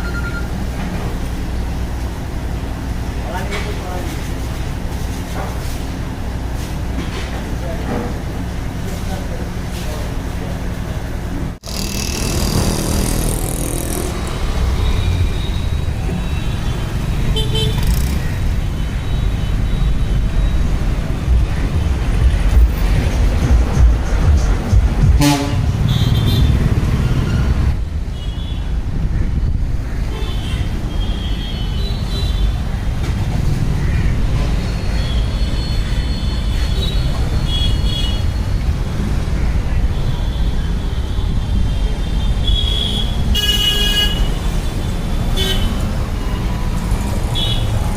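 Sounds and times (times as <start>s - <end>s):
low rumble of street traffic: 0.0s - 47.9s.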